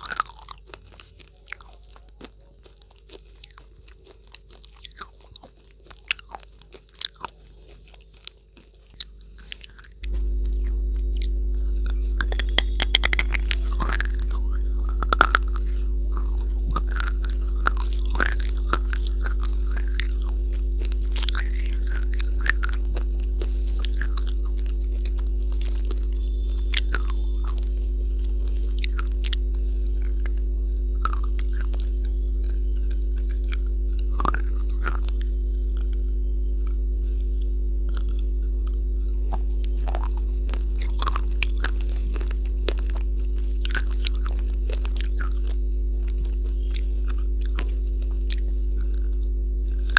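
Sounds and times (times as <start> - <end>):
brittle crunching bites: 0.0 - 49.9
low electrical hum: 0.0 - 49.9.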